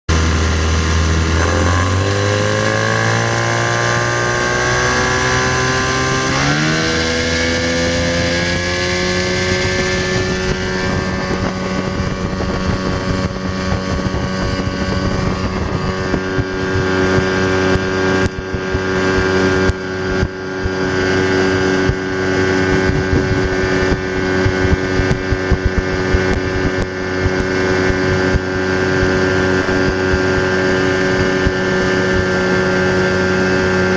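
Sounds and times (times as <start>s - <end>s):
motorboat engine revving: 0.1s - 33.9s
wind and water rushing: 0.1s - 33.9s.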